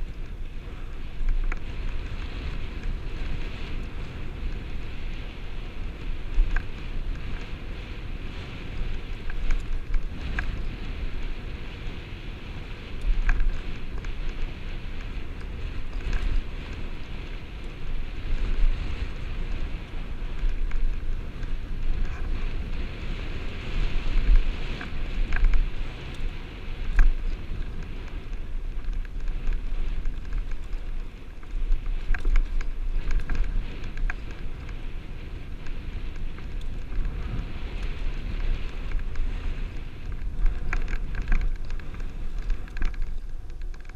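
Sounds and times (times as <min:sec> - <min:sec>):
bike rattling over rocks: 0:00.0 - 0:43.9
wind buffeting microphone: 0:00.0 - 0:43.9.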